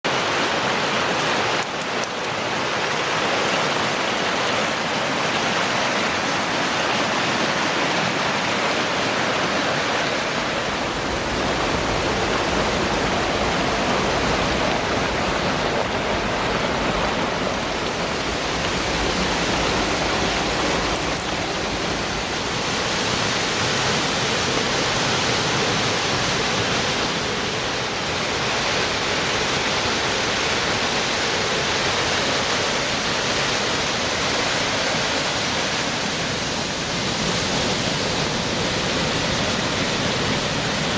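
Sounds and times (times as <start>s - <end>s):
waterfall rushing: 0.1s - 40.9s.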